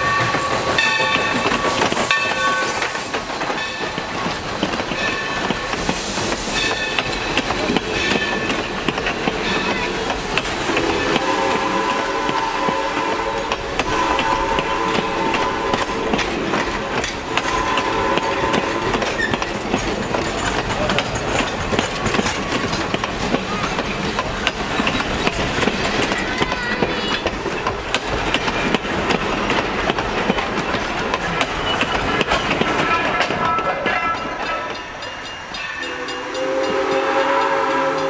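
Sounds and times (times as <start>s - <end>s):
train rumble and rattle: 0.0s - 38.0s
train wheels clacking over rail joints: 0.0s - 38.0s.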